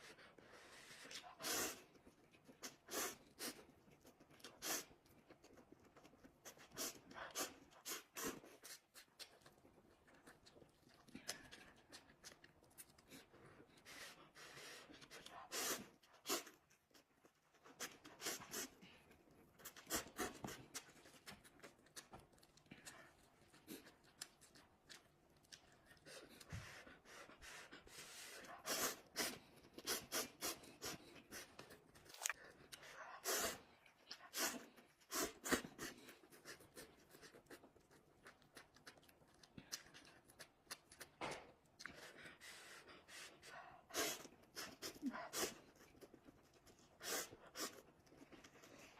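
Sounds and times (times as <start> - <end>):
chewing and slurping noodles: 0.0 - 48.9.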